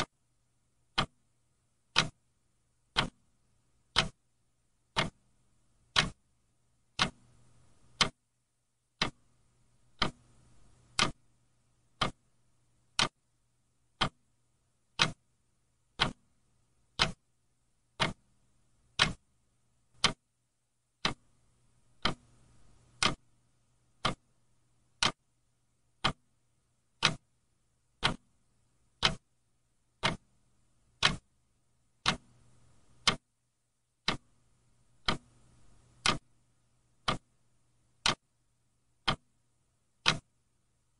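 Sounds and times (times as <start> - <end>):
faint low hum: 0.0 - 40.9
clock ticking: 0.8 - 8.2, 8.9 - 20.3, 20.9 - 31.4, 32.0 - 33.3, 34.0 - 38.4, 39.0 - 40.4.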